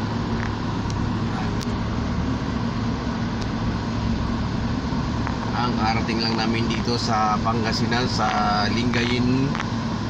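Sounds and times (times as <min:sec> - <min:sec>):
car engine hum: 0:00.0 - 0:10.0
road noise inside car: 0:00.0 - 0:10.0.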